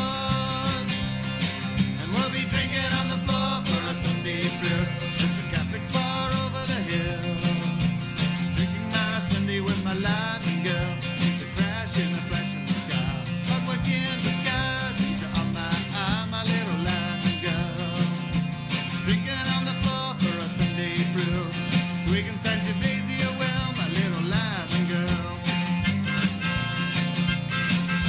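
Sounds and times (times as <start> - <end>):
acoustic guitar: 0.0 - 28.0
bass and drums: 0.0 - 28.0
country rock song: 0.0 - 28.0.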